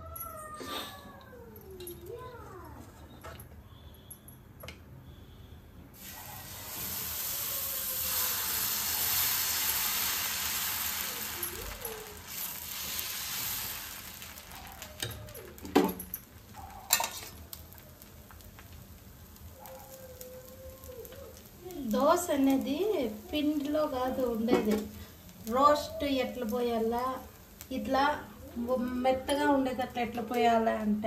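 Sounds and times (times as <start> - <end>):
batter sizzling on a griddle: 6.0 - 31.0.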